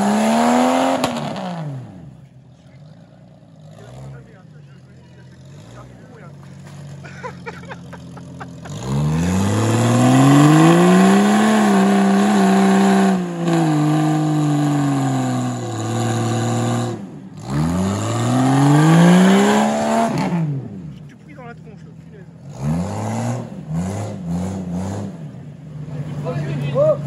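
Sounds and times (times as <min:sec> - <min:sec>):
engine revving at full throttle: 0:00.0 - 0:21.0, 0:22.3 - 0:26.8.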